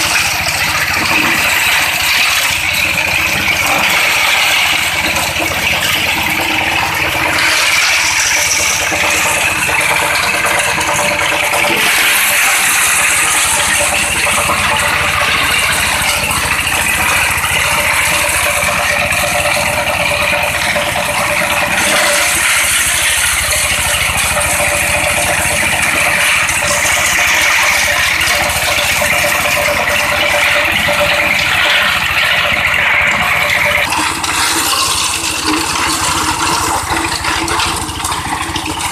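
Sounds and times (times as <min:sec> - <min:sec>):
grinder crushing roof tiles: 0:00.0 - 0:38.9.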